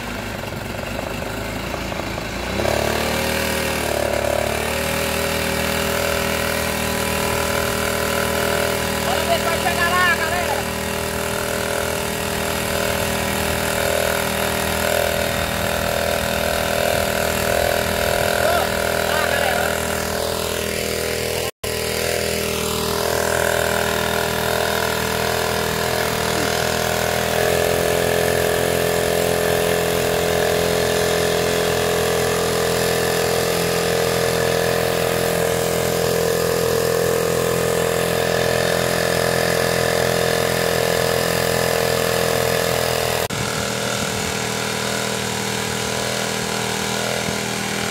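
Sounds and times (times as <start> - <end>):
outboard boat motor running: 0.0 - 47.9.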